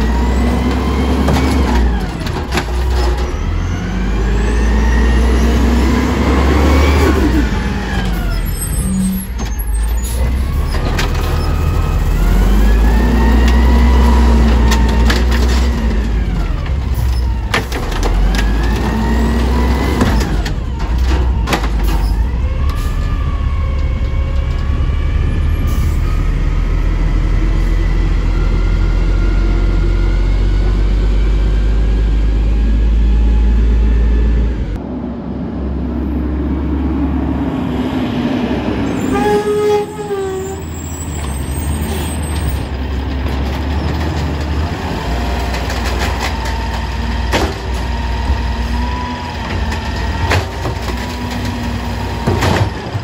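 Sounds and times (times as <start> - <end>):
garbage truck diesel engine: 0.0 - 53.0.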